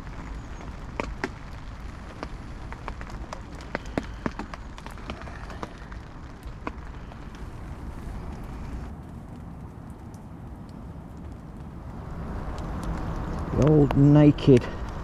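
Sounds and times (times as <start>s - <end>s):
raindrops tapping on fabric: 0.0s - 15.0s
steady rain hiss: 0.0s - 15.0s.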